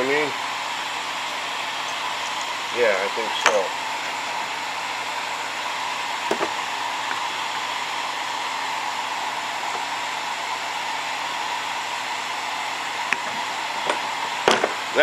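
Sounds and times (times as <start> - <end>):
blower whooshing hum: 0.0 - 15.0.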